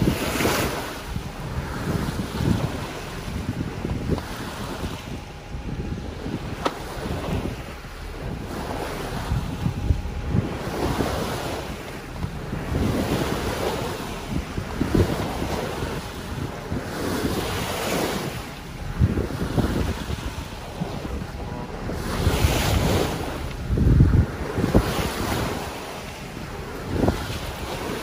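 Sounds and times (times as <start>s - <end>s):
water rushing along a hull: 0.0s - 28.0s
wind buffeting the microphone: 0.0s - 28.0s.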